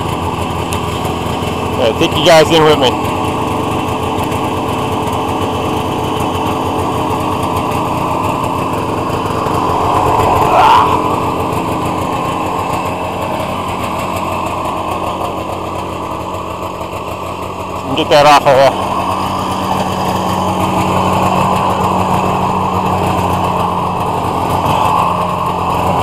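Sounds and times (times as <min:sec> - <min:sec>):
snowmobile engine idling: 0:00.0 - 0:26.0
snowmobile engine revving: 0:00.0 - 0:26.0.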